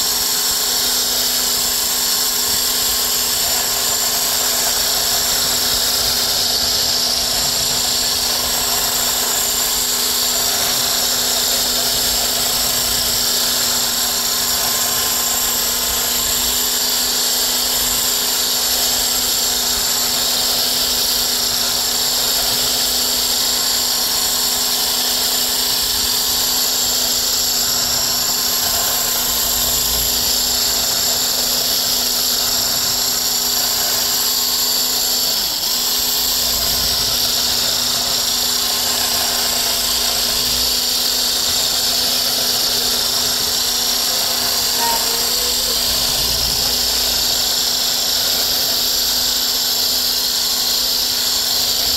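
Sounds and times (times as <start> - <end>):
hand blender motor whine: 0.0 - 51.9.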